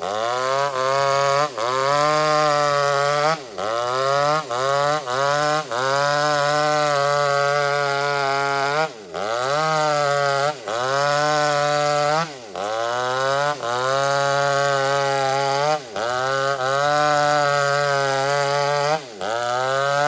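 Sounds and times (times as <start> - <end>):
chainsaw cutting timber: 0.0 - 20.0.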